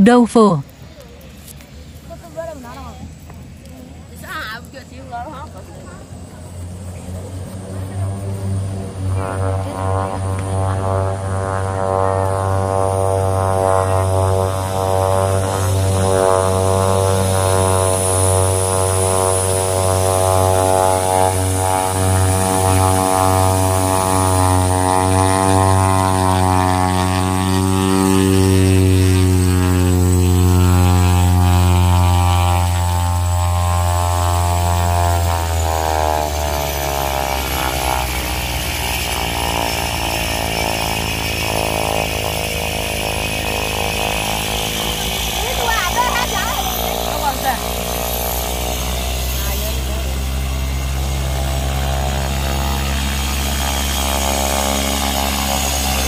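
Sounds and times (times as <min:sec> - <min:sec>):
propeller and engine drone: 0:00.0 - 0:56.0.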